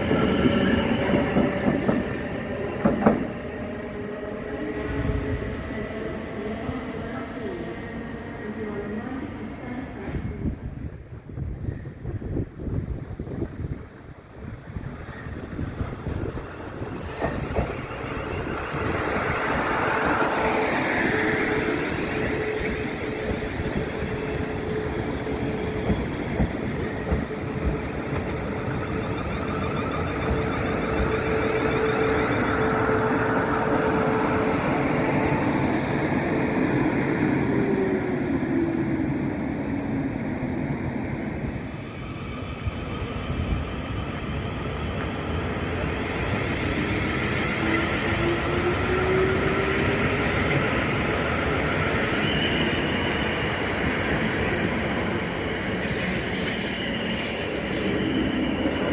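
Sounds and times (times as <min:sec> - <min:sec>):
train wheels rumbling on rails: 0:00.0 - 0:04.0, 0:08.5 - 0:58.9.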